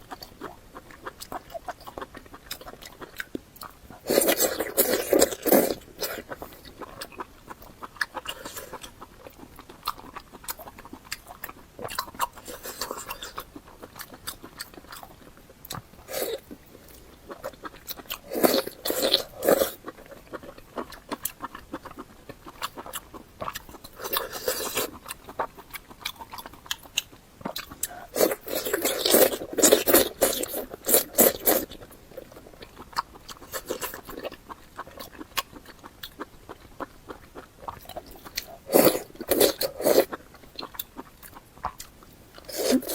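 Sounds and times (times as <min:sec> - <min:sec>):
chewing and biting: 0:00.0 - 0:42.9.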